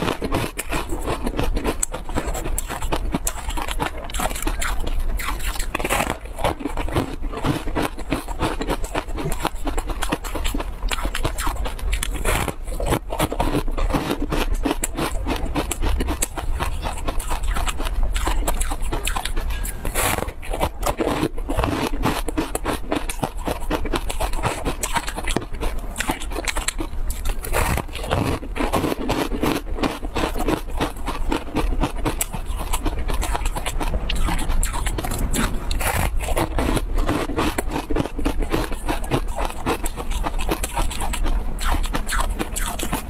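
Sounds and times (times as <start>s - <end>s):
crunchy chewing: 0.0s - 43.0s.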